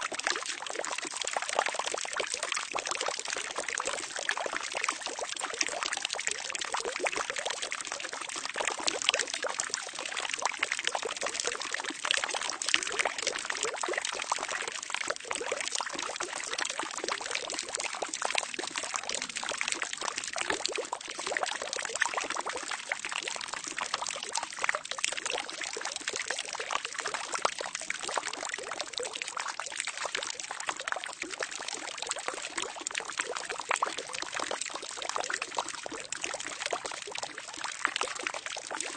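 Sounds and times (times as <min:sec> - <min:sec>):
water pouring into a barrel: 0:00.0 - 0:38.9.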